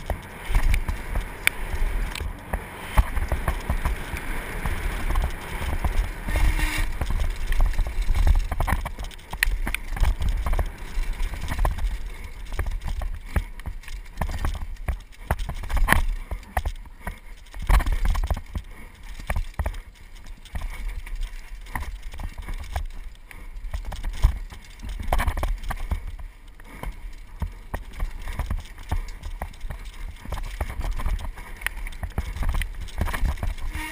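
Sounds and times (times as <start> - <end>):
bike rattling over bumps: 0.0 - 33.9
tyres rumbling: 0.0 - 33.9
wind: 0.0 - 33.9.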